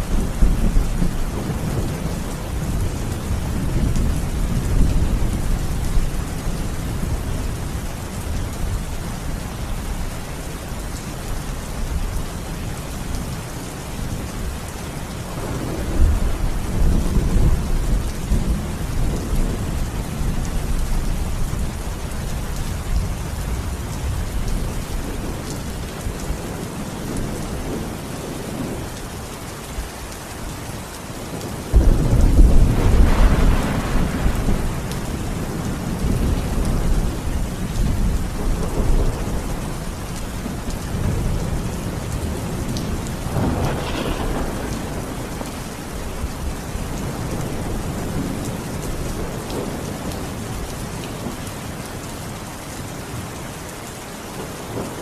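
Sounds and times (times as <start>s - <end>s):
low rolling thunder: 0.0s - 10.0s, 14.0s - 29.0s, 31.3s - 51.4s
rain hissing: 0.0s - 52.9s.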